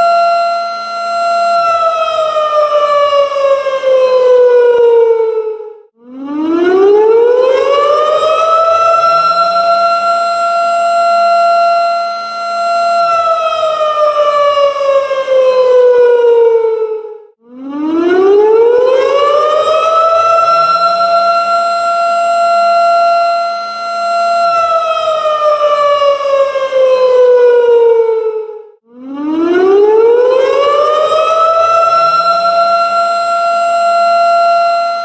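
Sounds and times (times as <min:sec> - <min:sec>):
warning siren wailing: 0:00.0 - 0:35.0.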